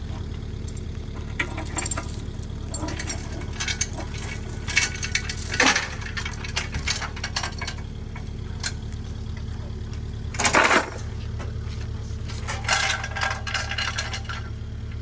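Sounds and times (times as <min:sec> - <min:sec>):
engine hum: 0:00.0 - 0:15.0
metal clinking and clanking: 0:00.7 - 0:15.0.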